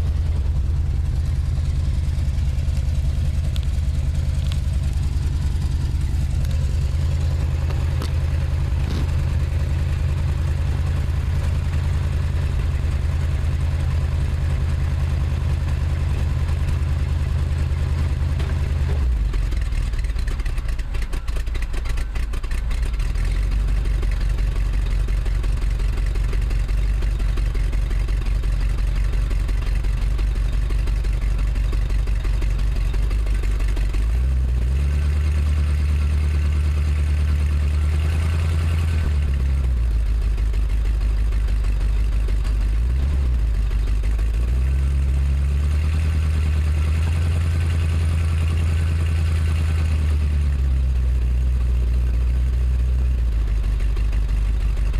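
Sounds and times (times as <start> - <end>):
engine running with misfire: 0.0 - 54.9.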